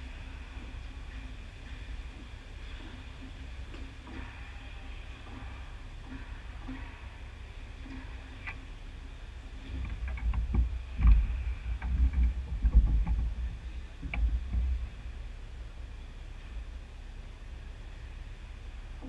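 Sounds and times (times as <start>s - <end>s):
low rumbling thuds: 0.0s - 19.0s.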